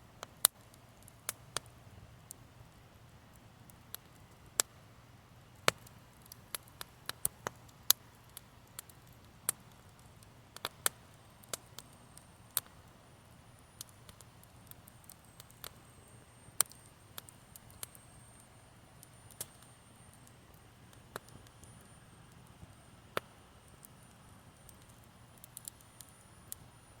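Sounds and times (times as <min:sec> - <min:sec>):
campfire crackling: 0:00.1 - 0:27.0.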